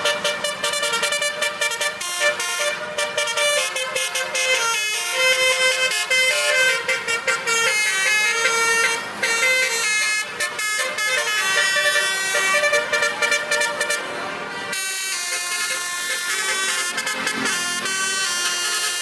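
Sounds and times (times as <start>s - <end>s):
truck musical horn melody: 0.0s - 19.0s.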